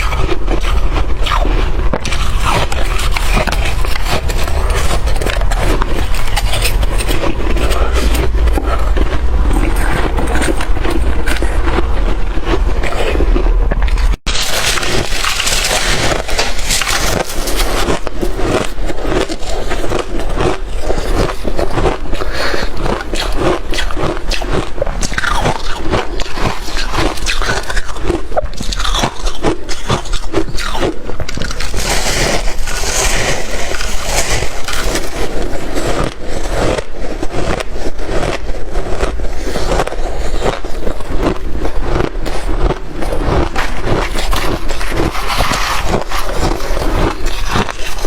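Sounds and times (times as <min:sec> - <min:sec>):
crunching and chewing shaved ice: 0:00.0 - 0:48.0.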